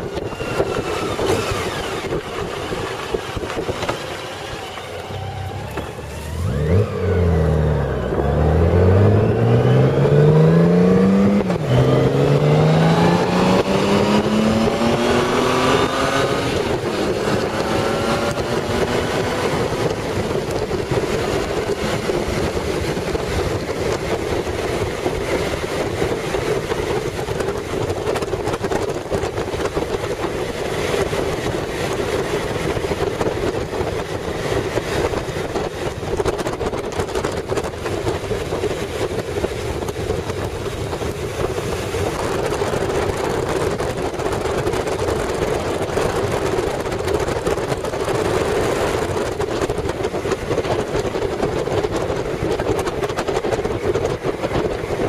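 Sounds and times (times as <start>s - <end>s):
motorcycle accelerating through gears: 0.0s - 55.0s.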